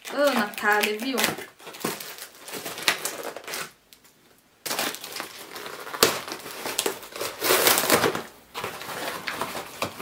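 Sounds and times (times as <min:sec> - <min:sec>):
packing crinkling and crackling: 0:00.0 - 0:10.0.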